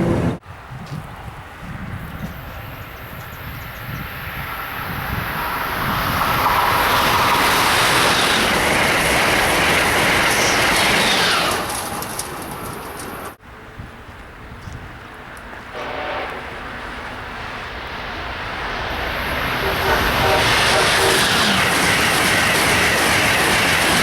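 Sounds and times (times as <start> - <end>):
train passing at speed: 0.0 - 24.0.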